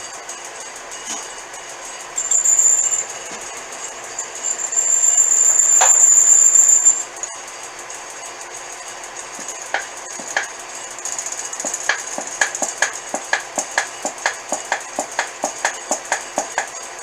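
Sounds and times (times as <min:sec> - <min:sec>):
drill bit squealing: 0:00.0 - 0:17.0
drill press running: 0:00.0 - 0:17.0.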